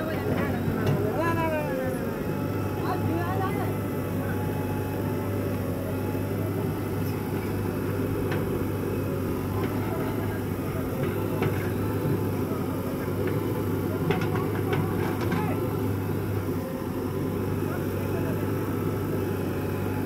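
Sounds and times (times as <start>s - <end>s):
backhoe loader diesel engine: 0.0s - 20.0s
tractor engine running: 0.0s - 20.0s.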